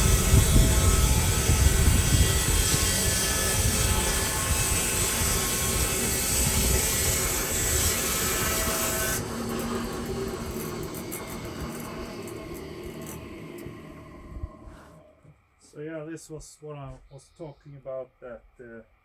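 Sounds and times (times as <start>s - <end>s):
sawmill engine running: 0.0s - 15.3s.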